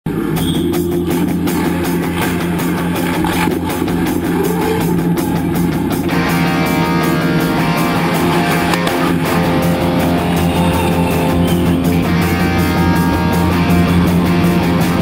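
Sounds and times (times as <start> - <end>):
music with drums and guitar: 0.1 - 15.0.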